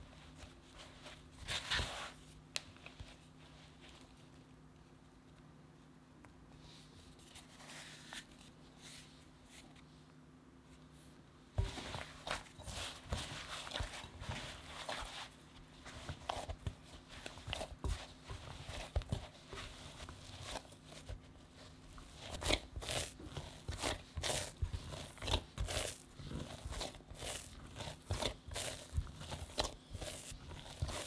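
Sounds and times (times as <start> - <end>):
dough squishing and patting: 0.0 - 10.0, 10.7 - 31.0.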